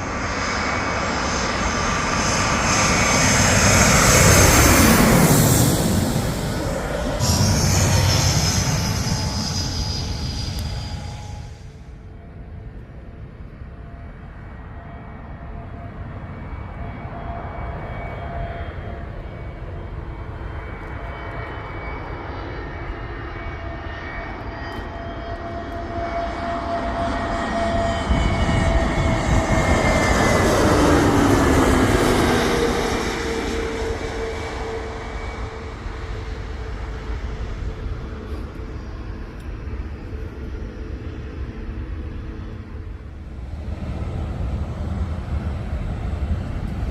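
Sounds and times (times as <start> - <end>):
jet airliner passing overhead: 0.0 - 46.9.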